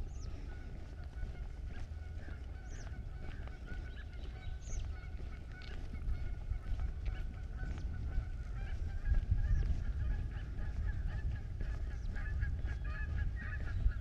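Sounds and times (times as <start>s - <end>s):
birds calling: 0.0s - 14.0s
steady low rumble: 0.0s - 14.0s.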